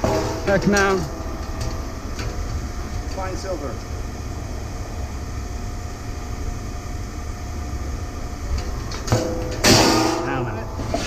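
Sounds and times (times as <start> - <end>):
low machine rumble: 0.0 - 11.0.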